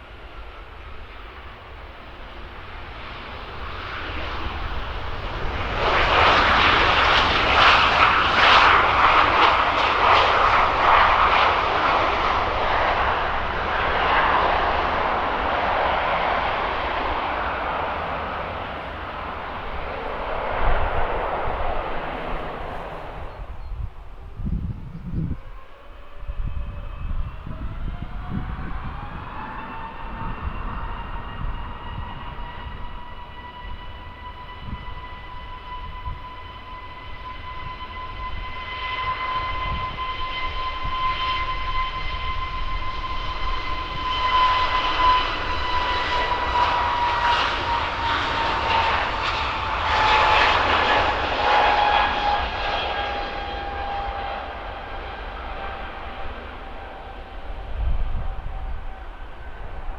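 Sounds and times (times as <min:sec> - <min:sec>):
jet engines passing: 0:00.0 - 0:59.9.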